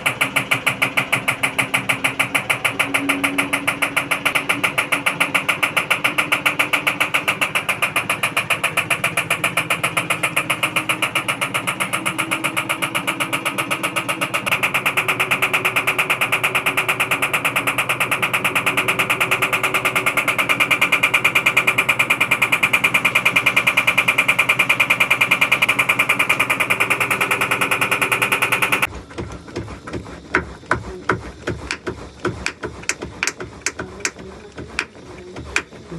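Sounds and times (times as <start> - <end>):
washing machine rhythmic knocking: 0.0 - 35.9.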